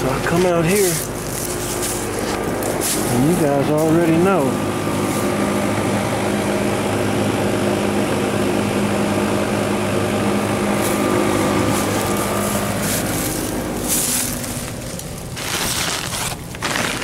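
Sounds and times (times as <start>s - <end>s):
compressor hum: 0.0s - 17.0s
condenser fan whirring: 0.0s - 17.0s.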